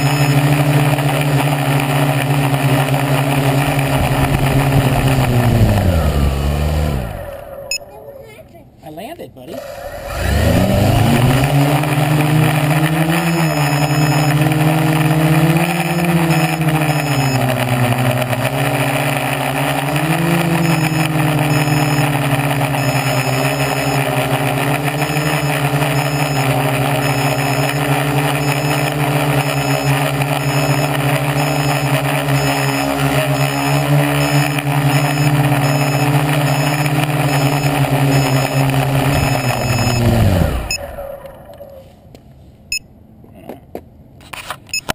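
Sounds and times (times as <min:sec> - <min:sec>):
quadcopter motors buzzing: 0:00.0 - 0:07.9, 0:09.5 - 0:41.8.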